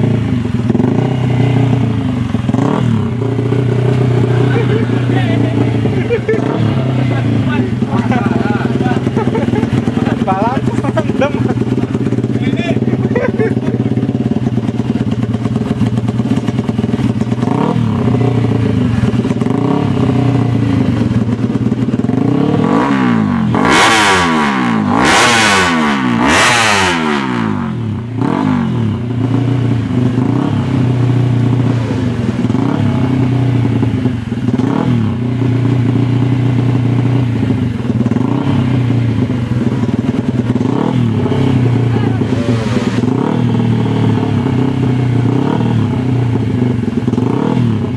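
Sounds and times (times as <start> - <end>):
motorcycle engine running hard: 0.0 - 47.9
motorcycles passing at speed: 0.0 - 47.9.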